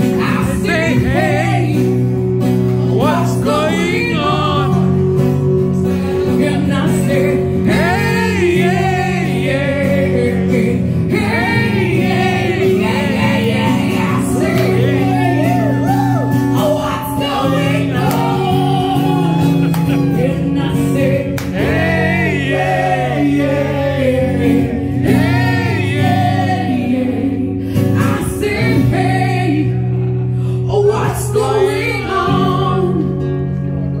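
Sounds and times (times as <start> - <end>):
woman singing: 0.0 - 2.2, 2.9 - 5.0, 5.8 - 30.0, 30.6 - 33.4
acoustic guitar: 0.0 - 34.0.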